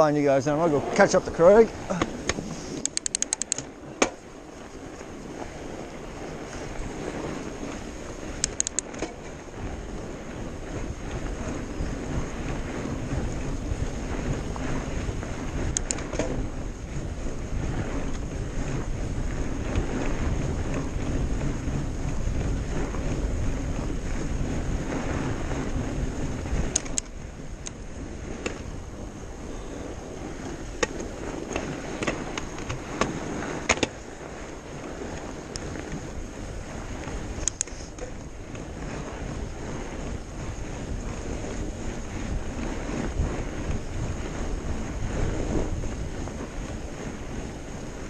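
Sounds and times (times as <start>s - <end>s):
bike clicking and rattling: 0.0s - 48.0s
bike tyres rumbling on snow: 0.0s - 48.0s
wind on microphone: 0.0s - 48.0s.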